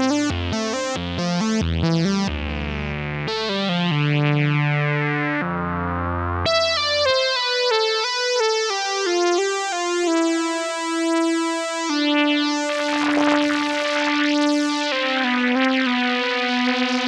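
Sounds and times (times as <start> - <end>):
buzzy synthesizer notes: 1.4 - 17.0.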